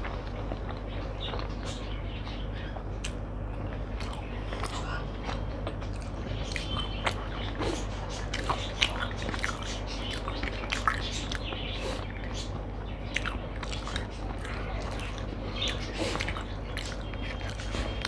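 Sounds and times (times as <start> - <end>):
chewing rice: 0.0 - 18.0
low steady hum: 0.0 - 18.0.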